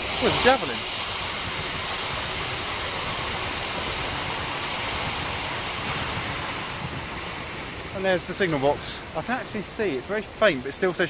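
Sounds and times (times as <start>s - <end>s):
high-speed train running past: 0.0s - 11.0s.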